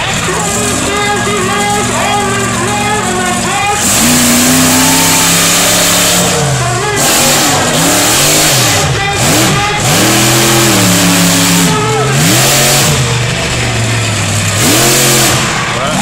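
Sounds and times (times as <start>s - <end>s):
loud rushing exhaust: 0.0s - 16.0s
truck engine revving: 0.0s - 16.0s.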